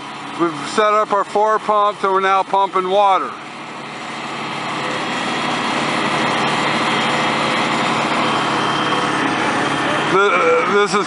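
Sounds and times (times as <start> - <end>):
engine-driven water pumps running: 0.0 - 11.0.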